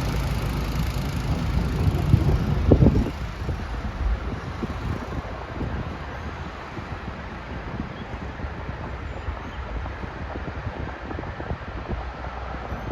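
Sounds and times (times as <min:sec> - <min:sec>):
truck rumbling along track: 0:00.0 - 0:12.9
wind buffeting microphone: 0:00.0 - 0:12.9.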